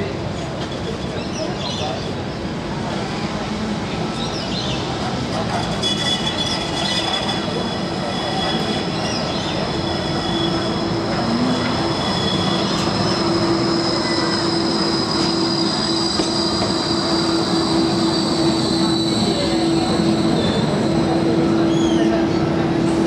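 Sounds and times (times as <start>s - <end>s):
tram hum: 0.0s - 23.0s
tram rumbling: 0.0s - 23.0s.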